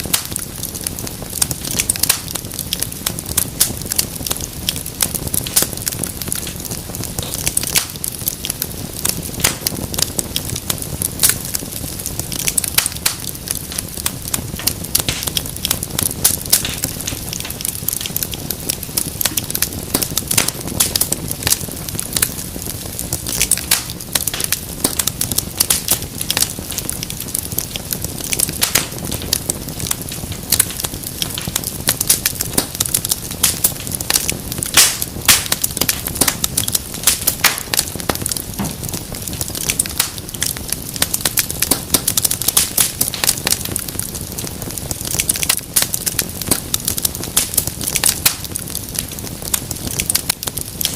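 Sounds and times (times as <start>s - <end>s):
fire crackling and popping: 0.0s - 50.9s
low rumble of flames: 0.0s - 50.9s.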